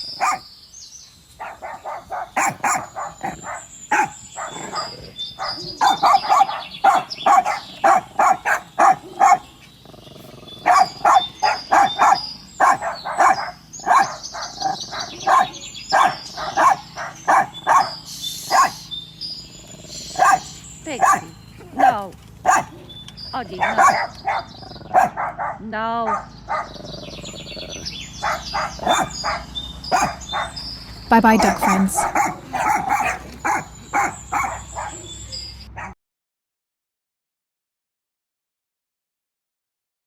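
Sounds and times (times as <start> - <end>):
dogs barking: 0.0 - 0.5, 1.3 - 36.0.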